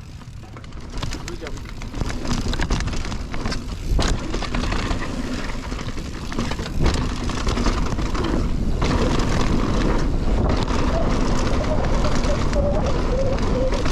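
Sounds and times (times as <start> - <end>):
bike clicks and rattles: 0.0 - 13.9
wind buffeting microphone: 0.0 - 13.9.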